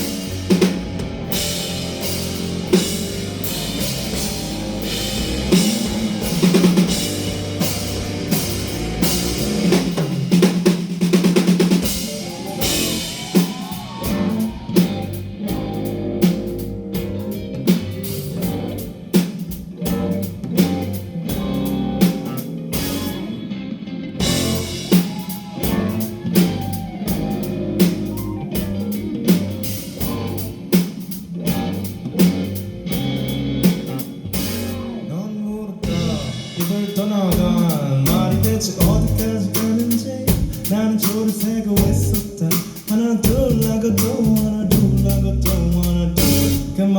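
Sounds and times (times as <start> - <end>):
drum kit beat: 0.0 - 23.4, 24.2 - 35.0, 35.8 - 46.9
bass guitar: 0.0 - 46.9
electric guitar: 0.0 - 46.9.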